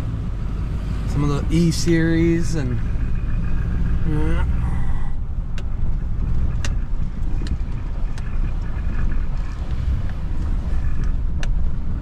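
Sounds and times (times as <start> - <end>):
vehicle rumble from inside: 0.0 - 12.0
sharp ticks and rattles: 1.1 - 12.0.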